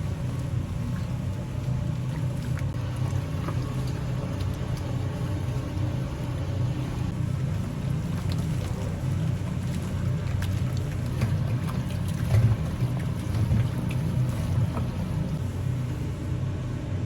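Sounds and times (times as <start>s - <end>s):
low machine rumble: 0.0s - 17.0s.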